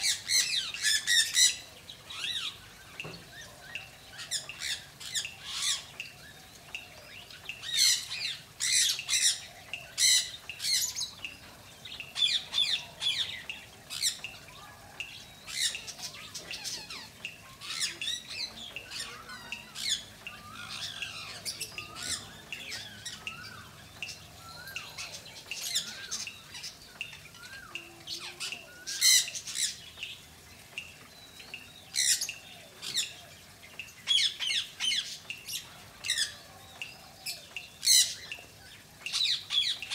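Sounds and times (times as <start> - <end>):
birds squawking and chirping: 0.0 - 39.9.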